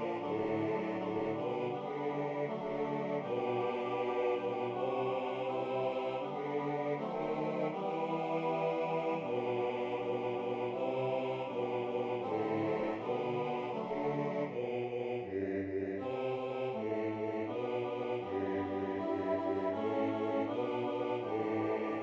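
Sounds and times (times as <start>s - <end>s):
synthesized choir voices singing chords: 0.0s - 22.0s.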